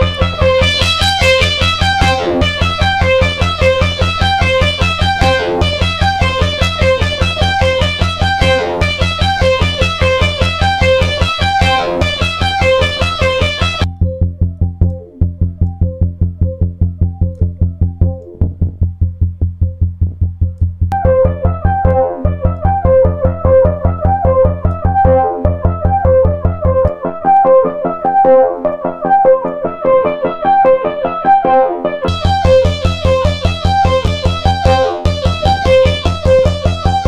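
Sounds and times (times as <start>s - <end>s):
distorted synth loop: 0.0s - 37.0s
low synth bass notes: 0.0s - 37.0s.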